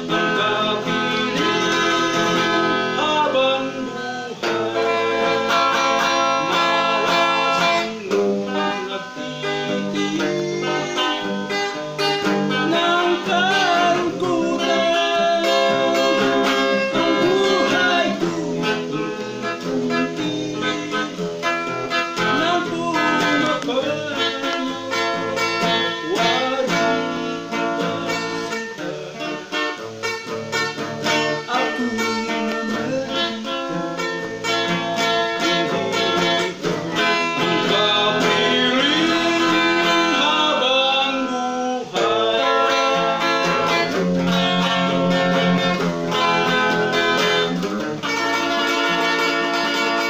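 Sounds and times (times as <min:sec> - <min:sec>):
electric guitar melody: 0:00.0 - 0:50.0.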